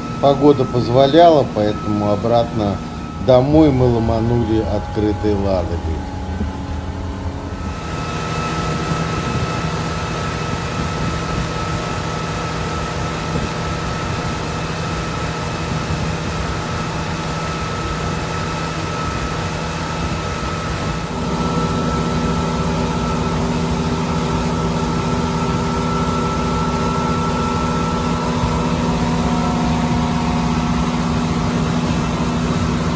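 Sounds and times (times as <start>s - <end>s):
motorboat engine: 0.0s - 32.9s
wind and water rushing: 0.0s - 32.9s.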